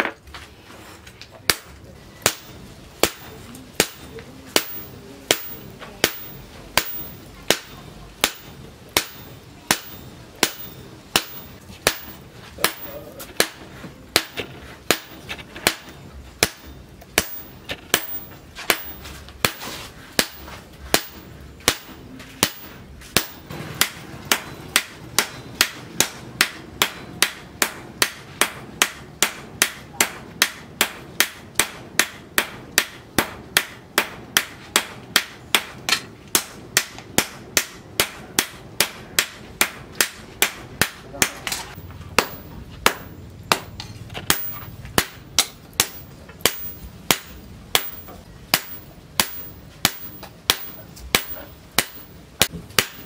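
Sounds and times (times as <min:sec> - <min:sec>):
hammers striking steel on anvil: 0:01.5 - 0:53.0.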